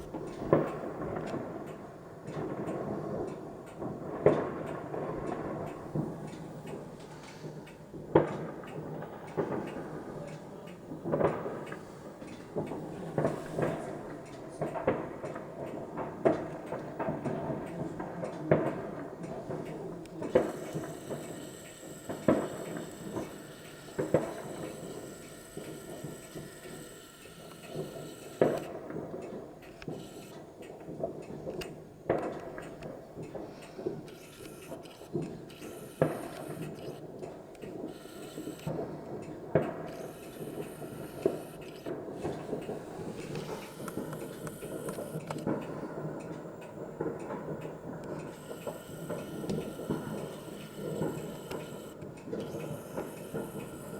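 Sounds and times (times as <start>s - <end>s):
fireworks pops and crackle: 0.0s - 53.9s
fireworks sharp bangs: 0.0s - 53.9s.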